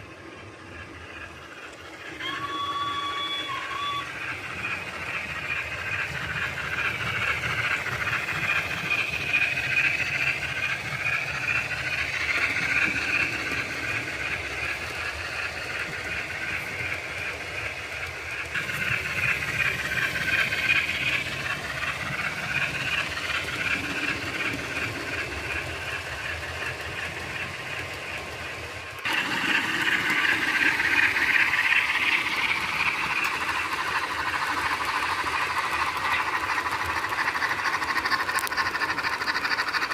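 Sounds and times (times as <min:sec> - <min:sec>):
model steam chuffs and hiss: 0:00.0 - 0:39.9
wheel noise on track: 0:00.0 - 0:39.9.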